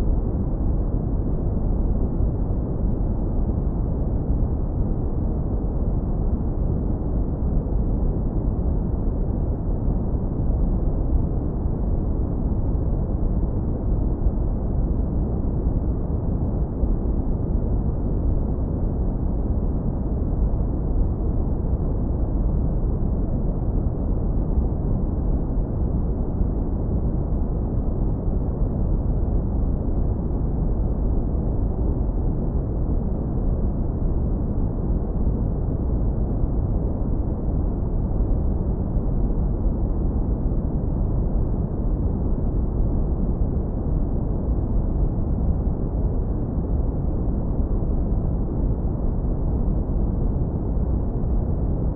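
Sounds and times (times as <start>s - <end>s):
deep brown noise rumble: 0.0s - 51.9s.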